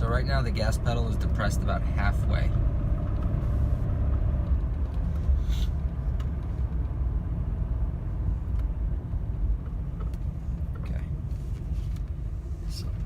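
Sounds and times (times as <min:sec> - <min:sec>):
car engine rumble inside cabin: 0:00.0 - 0:13.0
road noise: 0:00.0 - 0:13.0.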